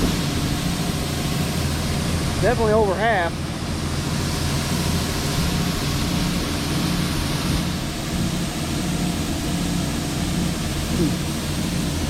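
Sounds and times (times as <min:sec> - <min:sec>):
diesel farm machinery throbbing hum: 0:00.0 - 0:12.0
wind hiss: 0:00.0 - 0:12.0.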